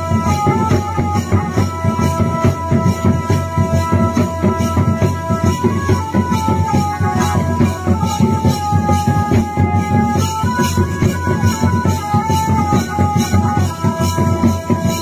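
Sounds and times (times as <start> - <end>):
drums and jingling cymbals: 0.0 - 15.0
high held melody: 0.0 - 15.0.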